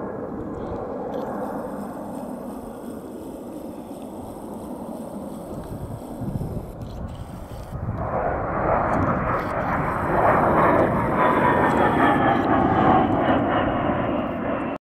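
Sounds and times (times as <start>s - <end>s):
jet engine high whine: 0.0s - 14.8s
jet engines rushing overhead: 0.0s - 14.8s.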